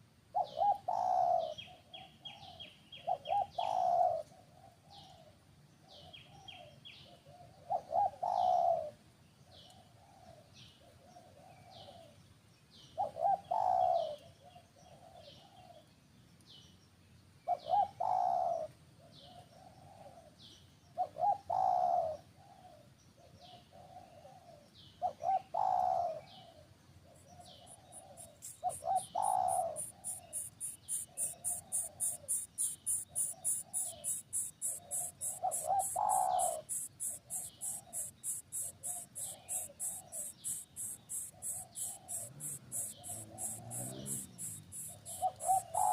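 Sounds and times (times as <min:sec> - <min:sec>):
dove cooing: 0:00.4 - 0:05.3, 0:07.1 - 0:09.0, 0:13.0 - 0:15.8, 0:17.5 - 0:20.3, 0:21.0 - 0:22.9, 0:23.5 - 0:45.9
small birds chirping: 0:00.4 - 0:45.9.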